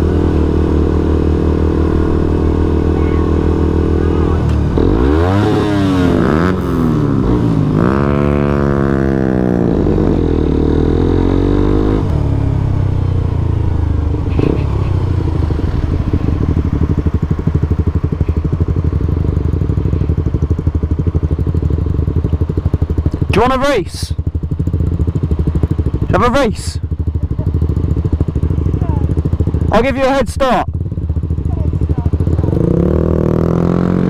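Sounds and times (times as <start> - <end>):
motorcycle engine accelerating and idling: 0.0 - 34.0.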